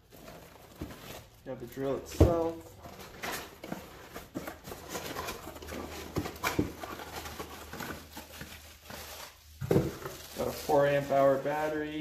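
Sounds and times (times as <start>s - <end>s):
plastic and fabric rustling: 0.0s - 12.0s.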